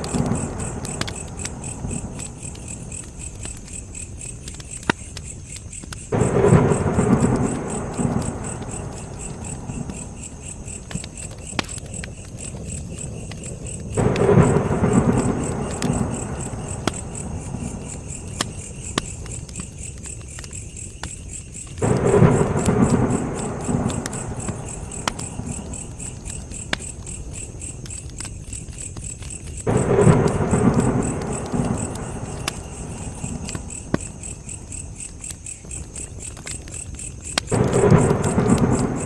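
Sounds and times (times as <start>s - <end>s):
campfire crackling and popping: 0.0s - 39.0s
crickets chirping: 0.0s - 39.0s.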